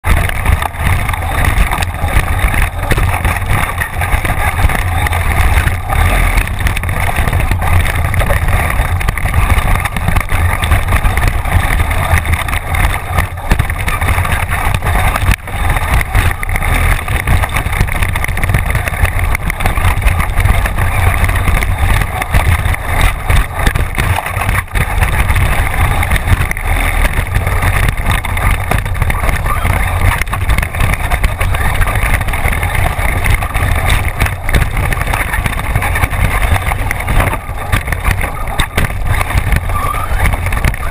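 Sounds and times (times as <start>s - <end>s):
toy truck tyres and drivetrain rumble: 0.0s - 40.9s.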